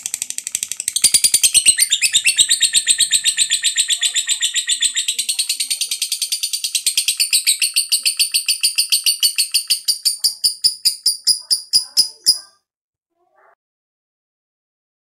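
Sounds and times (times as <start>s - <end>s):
lovebird chattering trill: 0.1s - 12.6s.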